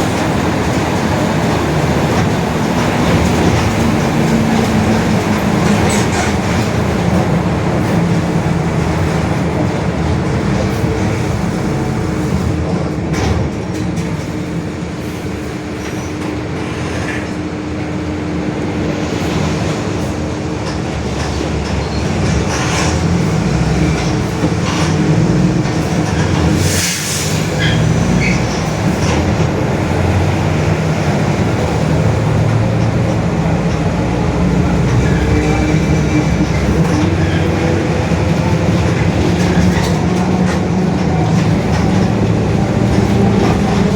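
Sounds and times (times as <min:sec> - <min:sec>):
bus drivetrain droning: 0:00.0 - 0:43.9.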